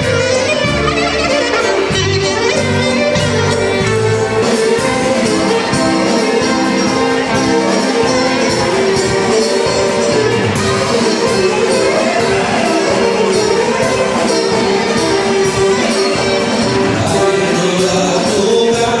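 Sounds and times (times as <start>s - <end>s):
folk dance music: 0.0s - 19.0s.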